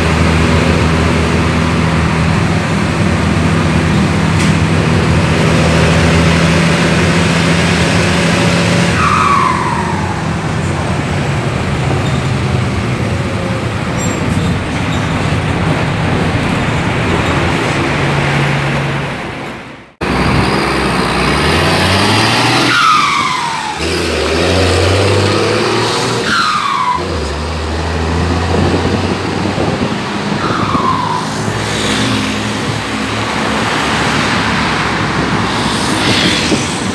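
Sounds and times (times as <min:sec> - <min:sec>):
bus engine accelerating: 0:00.0 - 0:36.9.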